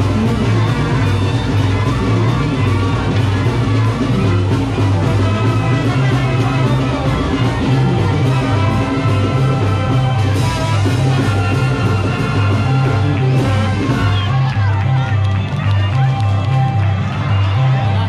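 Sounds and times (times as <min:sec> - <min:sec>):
loud music with bass and drums: 0:00.0 - 0:18.0.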